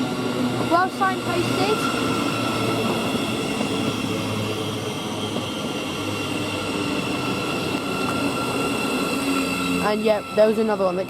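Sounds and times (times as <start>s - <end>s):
constant tones: 0.0s - 11.0s
electric train hum: 0.0s - 11.0s
train running noise: 0.0s - 11.0s.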